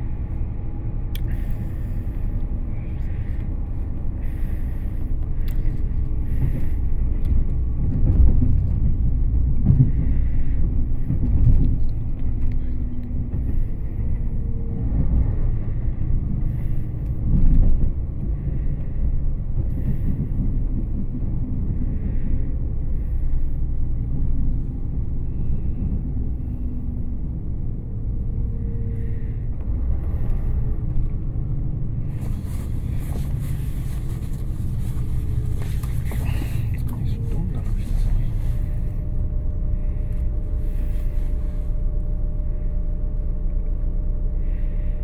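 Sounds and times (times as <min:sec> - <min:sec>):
train rumble inside carriage: 0:00.0 - 0:45.0.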